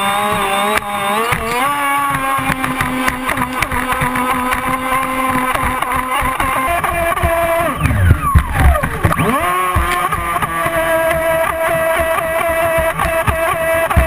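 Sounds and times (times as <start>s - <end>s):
electric motor whining: 0.0s - 14.0s
water rushing along hull: 0.0s - 14.0s.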